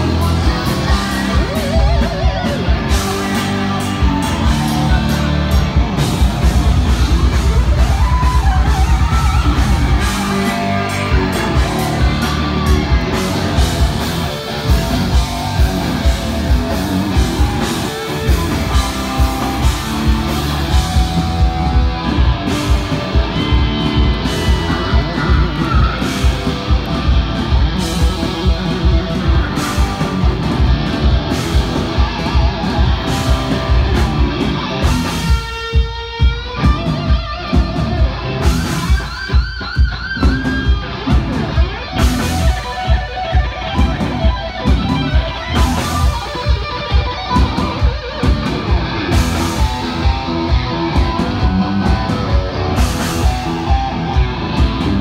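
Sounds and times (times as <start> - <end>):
distorted electric guitar: 0.0 - 55.0
drum beat: 0.0 - 55.0
heavy metal band playing live: 0.0 - 55.0.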